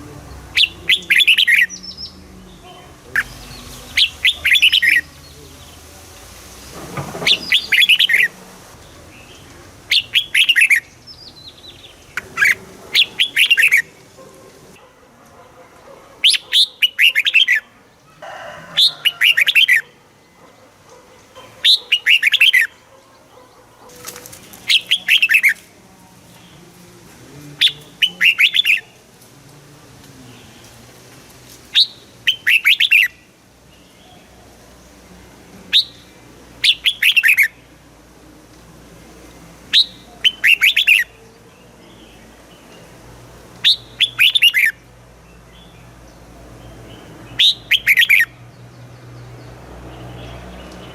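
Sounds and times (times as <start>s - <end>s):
bulbul singing: 0.0s - 14.8s, 16.2s - 17.8s, 18.8s - 20.4s, 21.3s - 29.2s, 31.7s - 38.2s, 39.2s - 50.9s.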